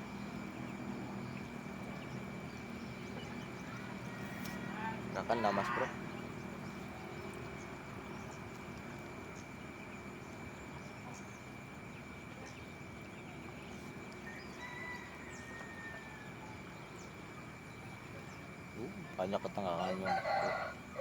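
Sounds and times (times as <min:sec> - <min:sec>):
high-pitched insect drone: 0:00.0 - 0:08.4, 0:09.3 - 0:21.0
constant hiss: 0:00.0 - 0:21.0.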